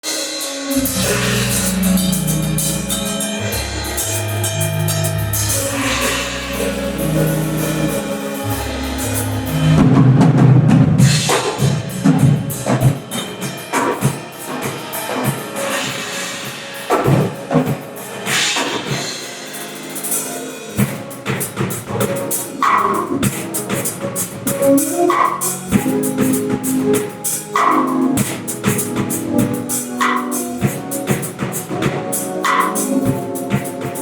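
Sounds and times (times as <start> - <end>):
drums and percussion: 0.0 - 34.0
held low instrumental notes: 0.6 - 34.0.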